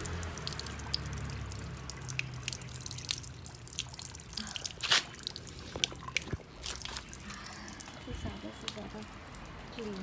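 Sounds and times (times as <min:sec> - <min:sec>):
tap water splashing on stone floor: 0:00.0 - 0:10.0.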